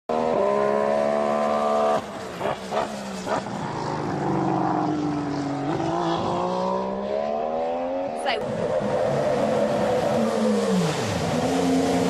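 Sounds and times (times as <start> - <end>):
racing car engine: 0.1 - 12.0.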